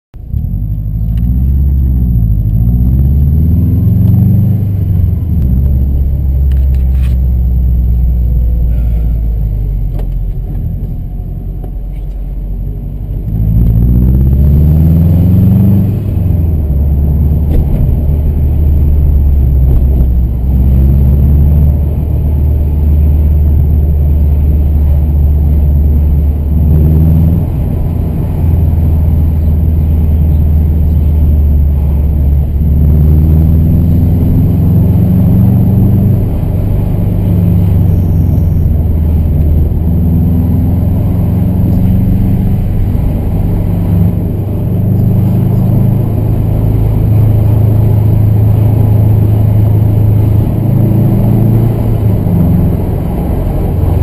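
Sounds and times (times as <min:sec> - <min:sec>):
car engine accelerating: 0:00.2 - 0:54.0.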